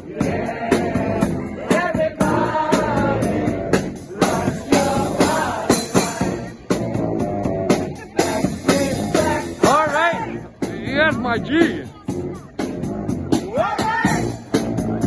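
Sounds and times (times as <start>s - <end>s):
brass band playing: 0.0s - 15.0s
steady drum beat: 0.0s - 15.0s.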